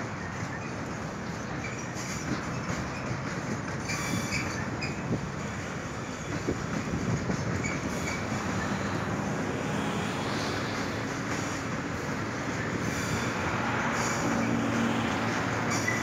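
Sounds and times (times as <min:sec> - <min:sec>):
train wheels rumbling on rail: 0:00.0 - 0:16.0
wheel squeals: 0:00.0 - 0:16.0.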